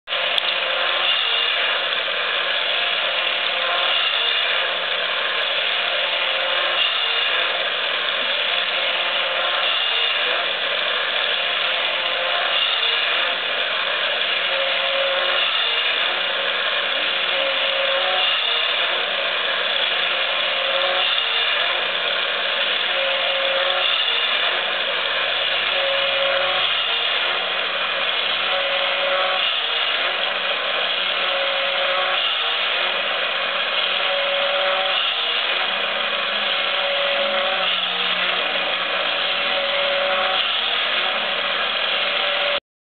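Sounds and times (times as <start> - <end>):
toy motor and gears whirring: 0.1 - 42.6.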